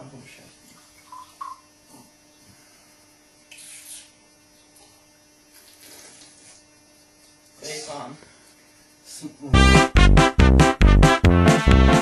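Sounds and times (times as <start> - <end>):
faint electrical mains hum: 0.0 - 10.9.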